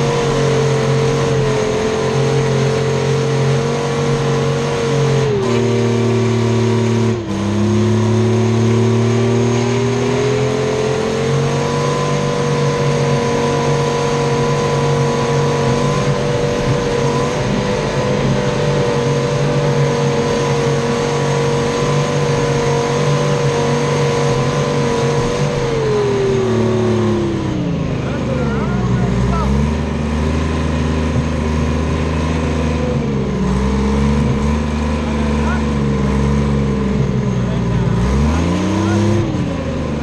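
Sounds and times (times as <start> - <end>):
diesel engine revving loud: 0.0 - 40.0.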